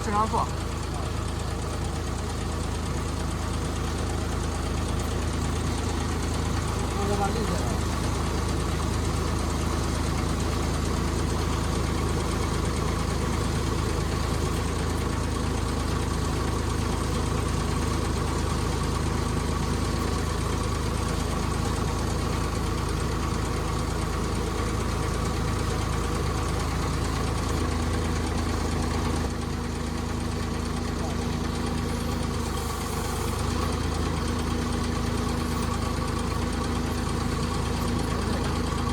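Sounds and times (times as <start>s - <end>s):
pile driver engine idling: 0.0s - 38.9s.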